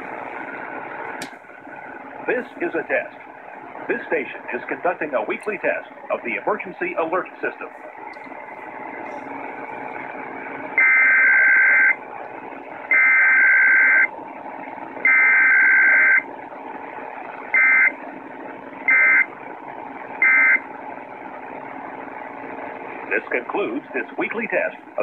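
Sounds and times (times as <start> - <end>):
radio hiss and hum: 0.0 - 25.0.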